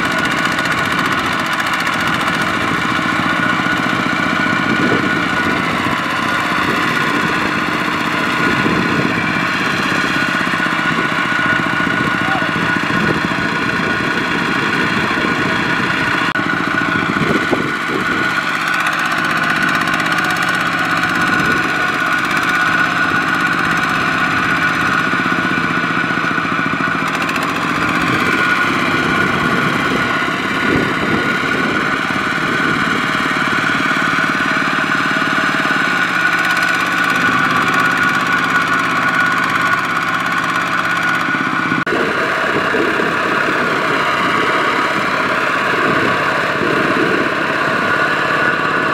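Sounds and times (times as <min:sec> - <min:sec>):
diesel tractor engine running: 0:00.0 - 0:48.9.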